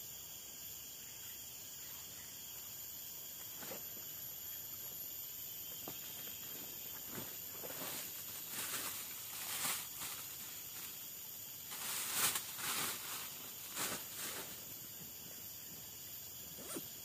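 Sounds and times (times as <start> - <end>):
forest insects droning: 0.0 - 17.0.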